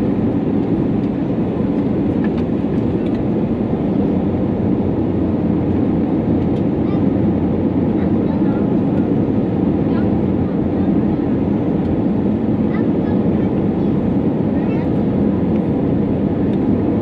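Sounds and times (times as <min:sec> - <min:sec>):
airflow rush in cabin: 0:00.0 - 0:17.0
jet engines: 0:00.0 - 0:17.0.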